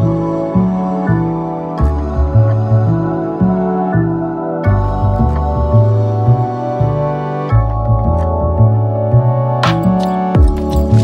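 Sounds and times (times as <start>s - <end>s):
gentle new-age instrumental music: 0.0s - 11.0s.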